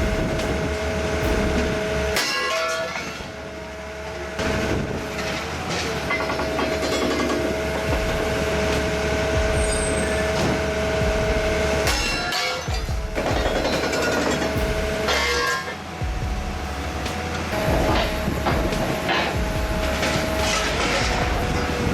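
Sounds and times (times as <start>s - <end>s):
diesel engine rumbling with whine: 0.0s - 21.9s.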